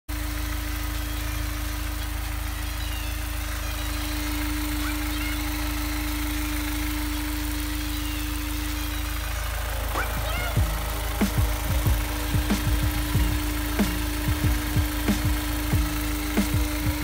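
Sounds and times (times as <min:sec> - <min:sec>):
car engine idling: 0:00.1 - 0:17.0
engine rattle: 0:00.1 - 0:17.0
engine whine: 0:00.1 - 0:17.0.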